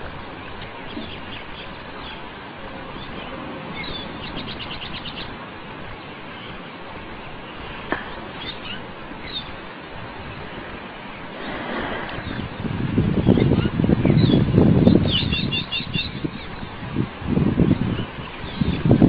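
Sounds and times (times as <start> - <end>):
small birds chirping: 0.2 - 16.9, 17.6 - 19.0.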